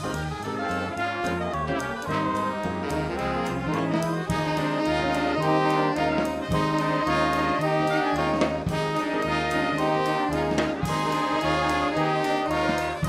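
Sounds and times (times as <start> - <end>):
brass band playing jazz: 0.0 - 13.0.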